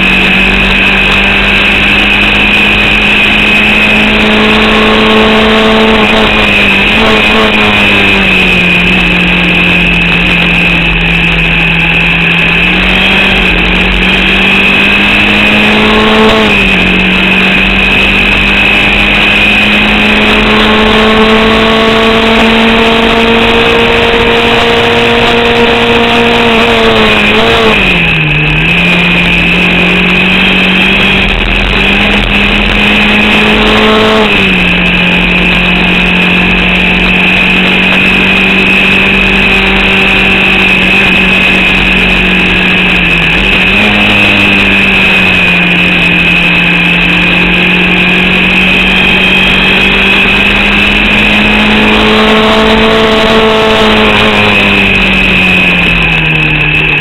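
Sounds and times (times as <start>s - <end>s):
race car engine running hard: 0.0s - 57.0s
steady high whine: 0.0s - 57.0s.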